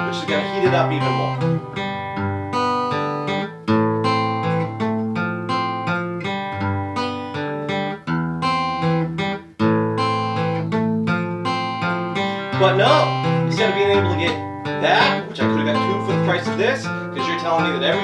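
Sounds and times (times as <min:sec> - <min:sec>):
acoustic guitar plucked and strummed: 0:00.0 - 0:18.0.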